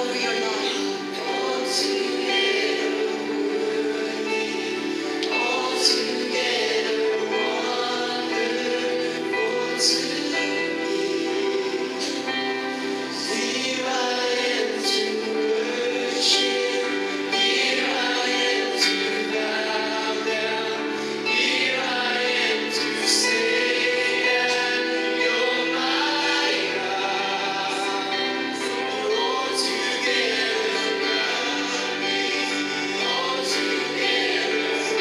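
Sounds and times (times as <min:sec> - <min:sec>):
choir voices: 0:00.0 - 0:35.0
musical accompaniment: 0:00.0 - 0:35.0.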